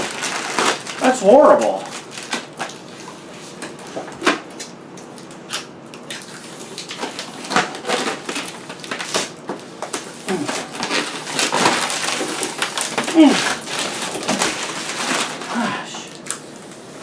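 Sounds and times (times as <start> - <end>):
plastic film peeling crackle: 0.0 - 17.0.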